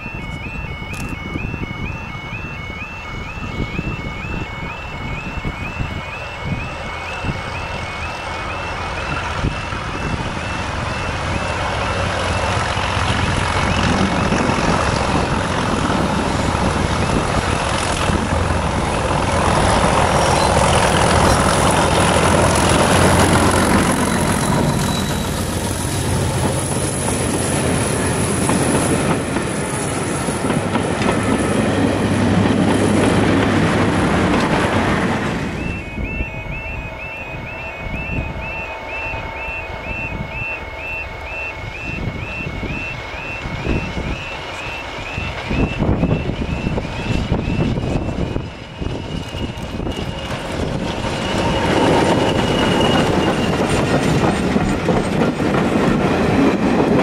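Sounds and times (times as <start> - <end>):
diesel locomotive engine: 0.0 - 57.0
train coaches rolling on rails: 0.0 - 57.0.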